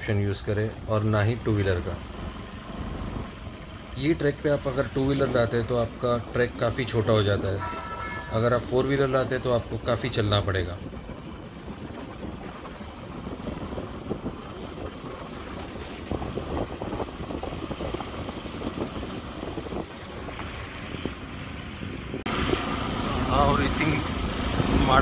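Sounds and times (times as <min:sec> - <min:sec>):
motorcycle engine running: 0:00.7 - 0:25.0
wind buffeting microphone: 0:01.4 - 0:25.0.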